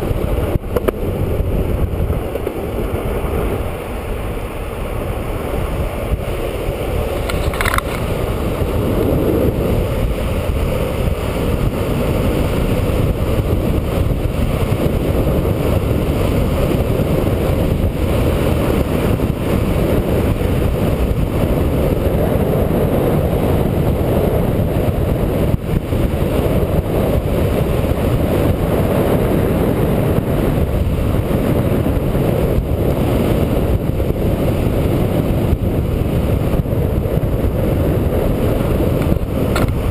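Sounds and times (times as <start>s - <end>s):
longboard wheels rumbling on asphalt: 0.0s - 39.9s
wind on microphone: 0.0s - 39.9s.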